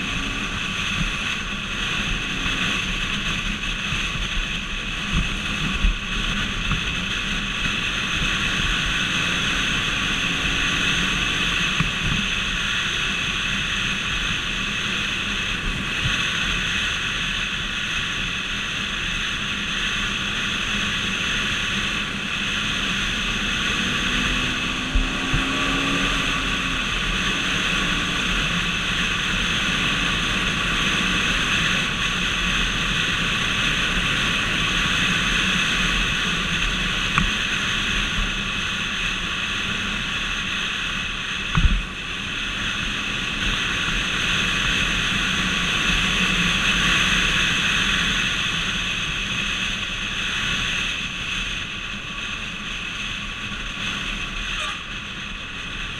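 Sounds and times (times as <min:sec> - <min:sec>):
vehicle road and wind noise: 0:00.0 - 0:55.9.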